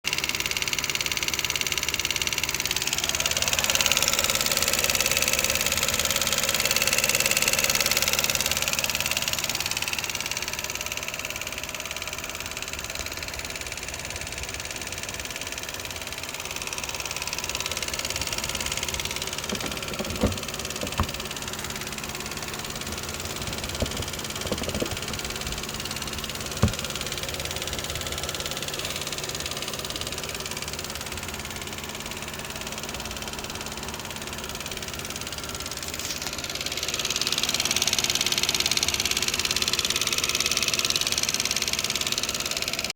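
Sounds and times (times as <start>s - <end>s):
car engine idling with ticking: 0.0s - 42.9s.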